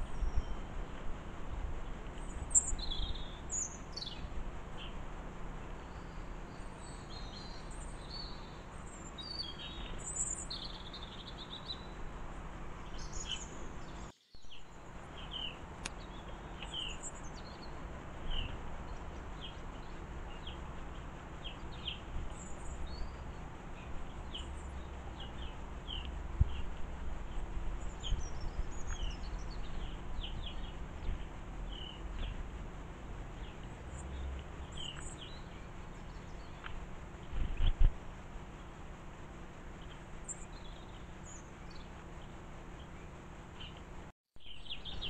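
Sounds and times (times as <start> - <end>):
low background noise: 0.0 - 45.0
small birds chirping: 0.0 - 45.0.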